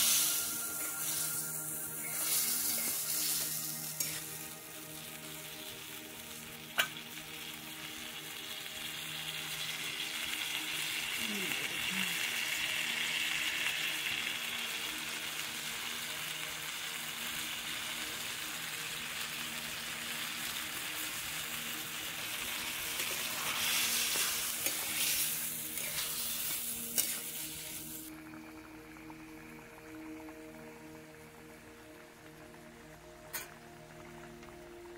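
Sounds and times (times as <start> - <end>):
curry sizzling in a pan: 0.0 - 34.9.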